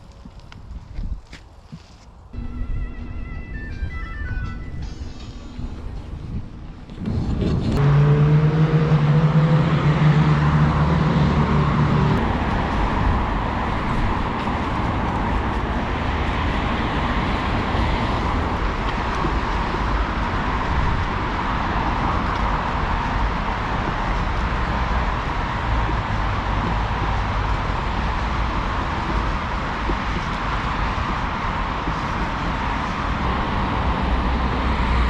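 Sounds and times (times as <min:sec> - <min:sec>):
road traffic noise: 0:00.0 - 0:35.0
vehicle engine hum: 0:01.8 - 0:35.0.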